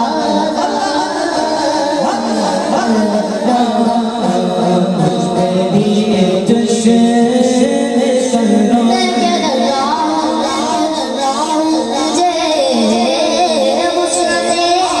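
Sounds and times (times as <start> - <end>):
boy singing through a microphone: 0.0 - 15.0.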